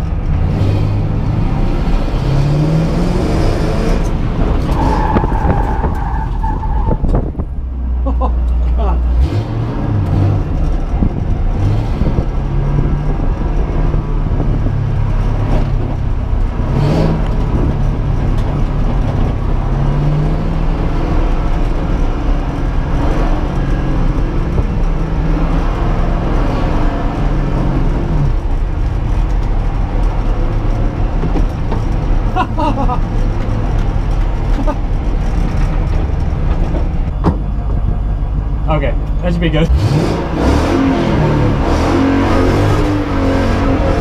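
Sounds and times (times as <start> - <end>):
car engine revving: 0.0 - 7.7, 8.9 - 44.0
tyre and road noise: 0.0 - 44.0.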